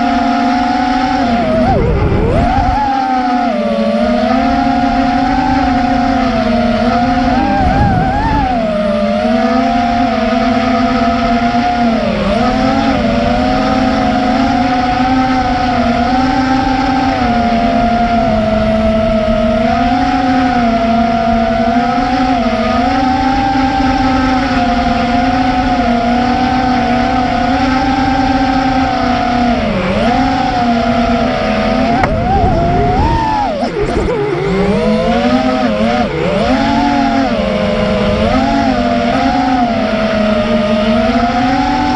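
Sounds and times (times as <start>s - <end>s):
quadcopter motors whining: 0.0s - 41.9s.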